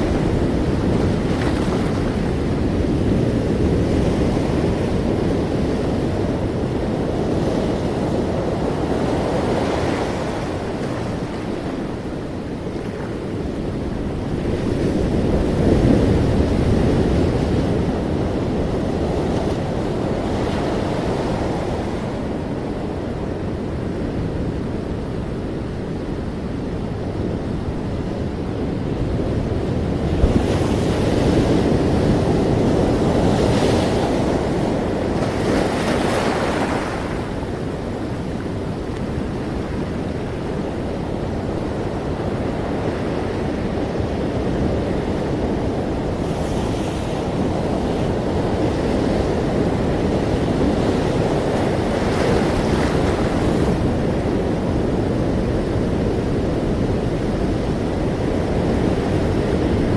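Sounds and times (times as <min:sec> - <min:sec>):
ocean waves washing: 0:00.0 - 0:59.9.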